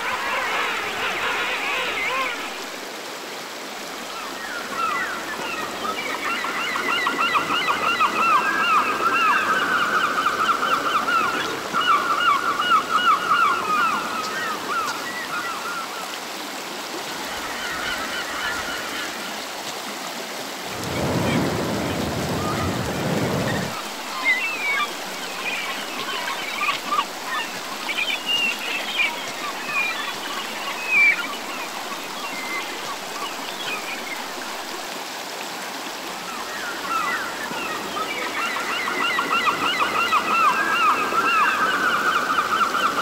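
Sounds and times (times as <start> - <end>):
stream running over rocks: 0.0 - 43.0.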